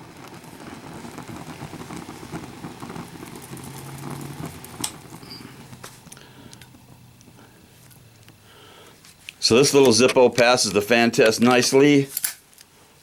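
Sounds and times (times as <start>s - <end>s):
electric fan humming: 0.0s - 12.9s.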